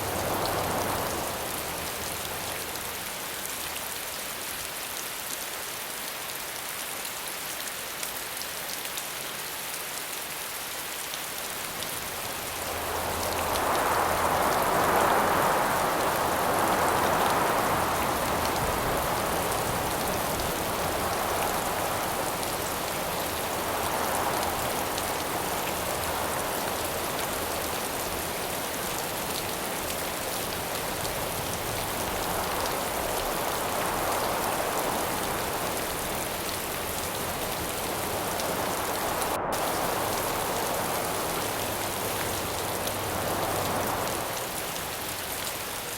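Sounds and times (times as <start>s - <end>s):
wind gusts: 0.0s - 3.8s, 11.0s - 45.9s
steady rain hiss: 0.0s - 45.9s.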